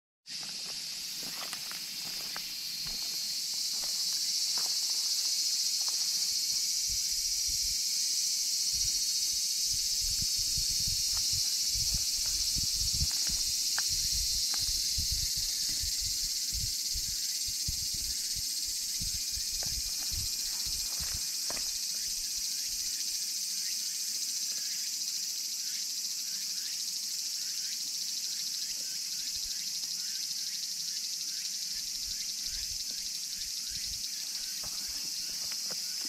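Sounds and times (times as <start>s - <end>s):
shrill insect chorus: 0.3s - 36.0s.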